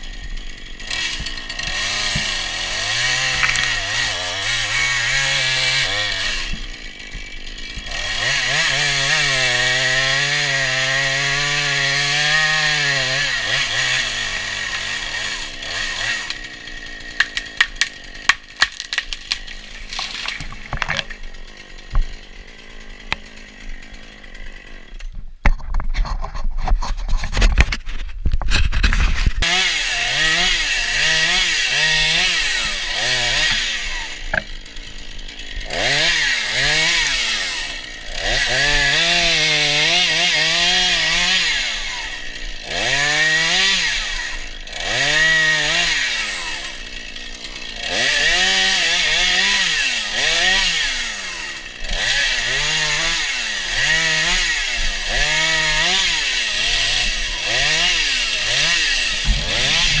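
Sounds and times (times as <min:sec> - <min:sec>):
chainsaw revving: 0:00.0 - 0:25.1, 0:28.9 - 1:00.0.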